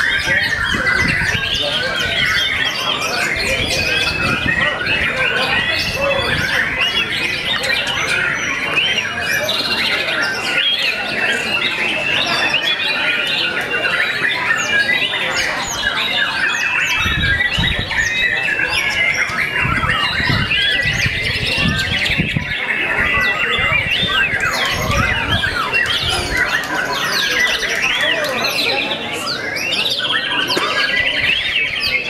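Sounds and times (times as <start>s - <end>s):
birds singing in chorus: 0.0s - 32.0s.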